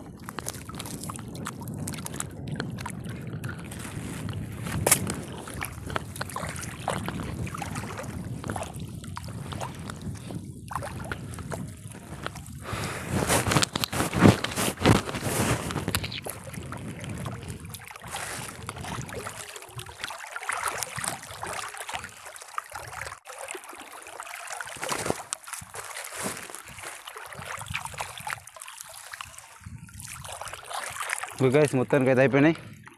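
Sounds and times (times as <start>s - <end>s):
wind on microphone: 0.0s - 23.2s, 24.7s - 32.9s
water splashing and dripping: 0.1s - 31.7s.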